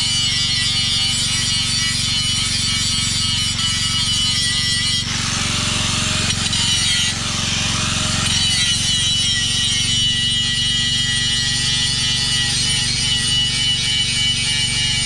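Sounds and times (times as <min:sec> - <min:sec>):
angle grinder motor whine: 0:00.0 - 0:15.0
grinding disc rasping on metal: 0:00.0 - 0:15.0.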